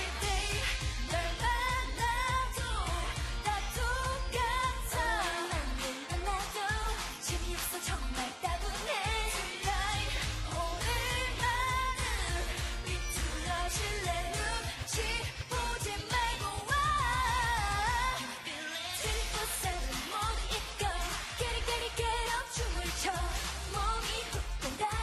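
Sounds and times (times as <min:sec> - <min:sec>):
pop backing track with bass beat: 0:00.0 - 0:25.0
women singing: 0:00.0 - 0:25.0.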